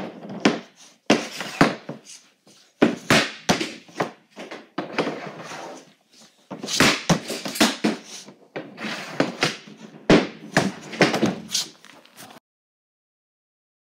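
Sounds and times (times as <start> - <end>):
stick slapping puck: 0.0 - 5.8, 6.5 - 12.4
hockey blade scraping floor: 0.0 - 12.4.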